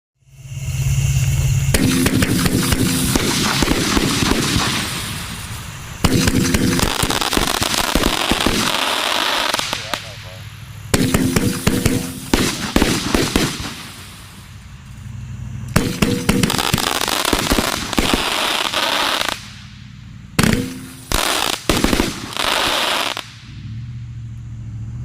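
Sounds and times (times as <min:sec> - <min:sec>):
firework crackling: 0:00.2 - 0:23.7
firework bangs: 0:00.6 - 0:23.6.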